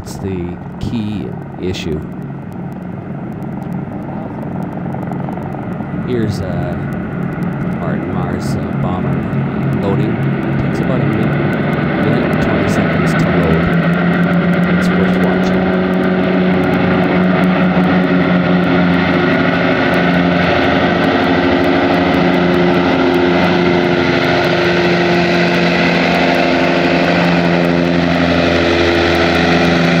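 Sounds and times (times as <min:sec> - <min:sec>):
propeller engines droning: 0:00.0 - 0:30.0.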